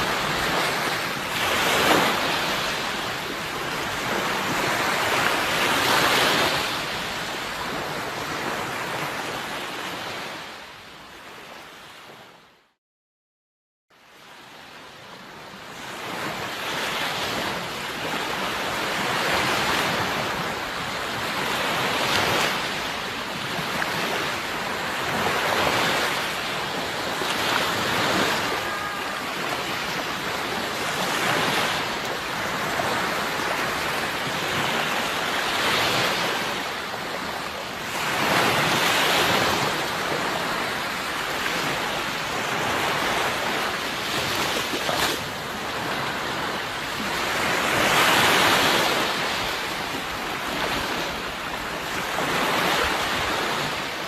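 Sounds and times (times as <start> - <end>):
sea waves washing in: 0.0 - 12.3, 14.1 - 54.0.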